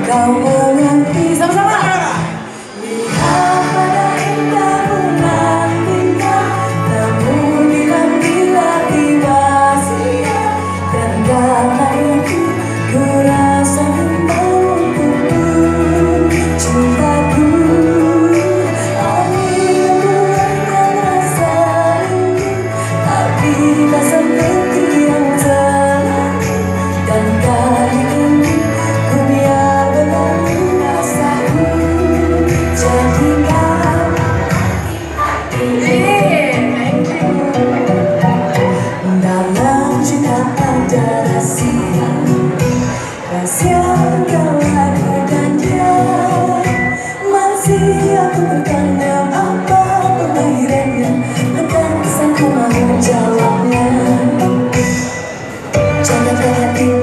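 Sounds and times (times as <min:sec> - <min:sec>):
amplified pop backing music: 0:00.0 - 0:57.0
woman singing into microphone: 0:00.0 - 0:57.0.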